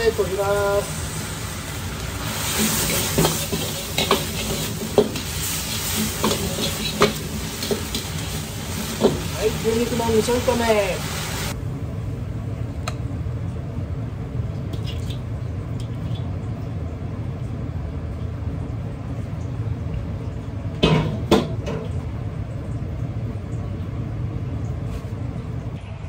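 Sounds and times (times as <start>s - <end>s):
low kitchen rumble: 0.0s - 26.0s.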